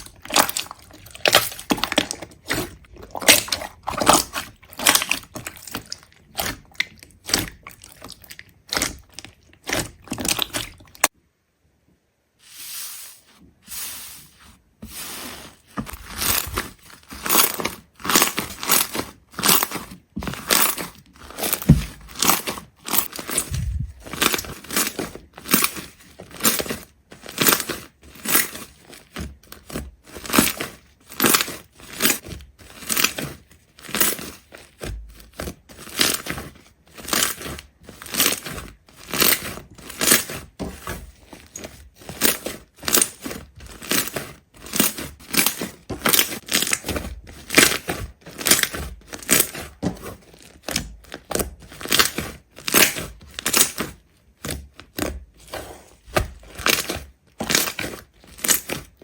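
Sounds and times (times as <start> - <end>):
brittle crunches and cracks: 0.0 - 11.1, 15.7 - 59.0.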